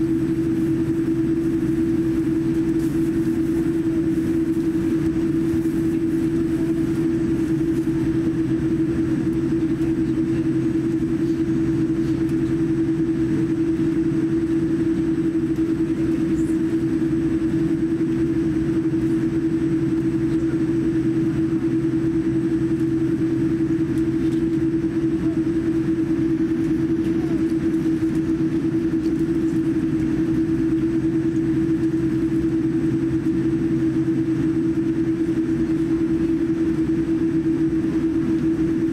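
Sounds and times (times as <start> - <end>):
aircraft cabin hum and rumble: 0.0 - 38.9.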